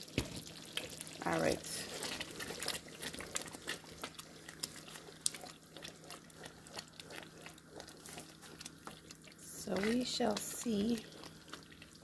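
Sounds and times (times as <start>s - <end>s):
sauce sloshing and squelching: 0.0s - 12.0s.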